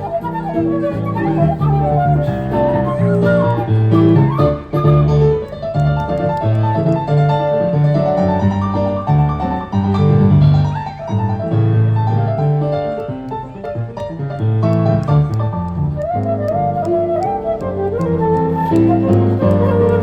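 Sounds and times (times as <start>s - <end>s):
folk ensemble music: 0.0s - 20.0s
keyboard melody: 0.0s - 20.0s.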